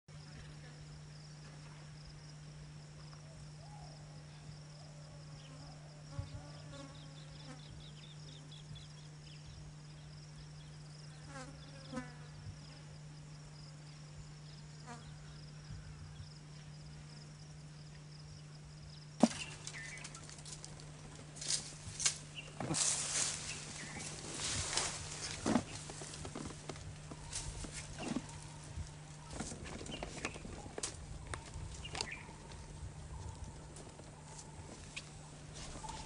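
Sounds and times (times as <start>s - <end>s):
insects droning: 0.1s - 36.0s
low steady hum: 0.1s - 36.0s.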